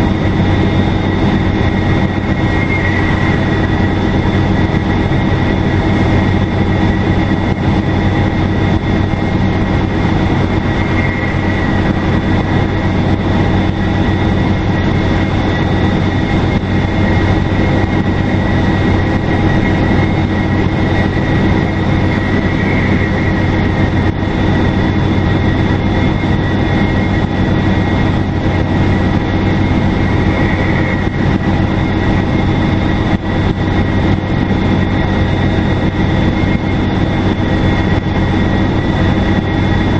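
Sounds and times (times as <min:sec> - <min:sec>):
diesel bus engine drone: 0:00.0 - 0:39.9.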